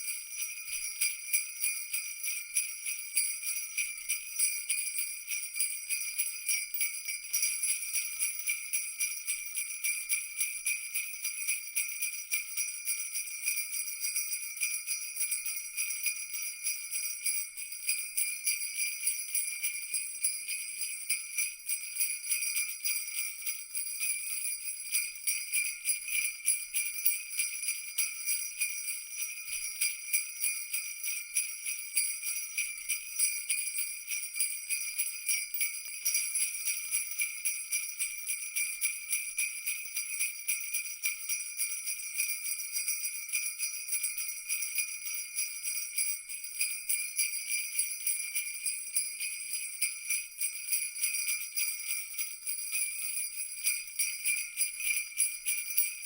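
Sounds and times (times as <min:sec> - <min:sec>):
jingle bells shaken: 0:00.0 - 0:56.0.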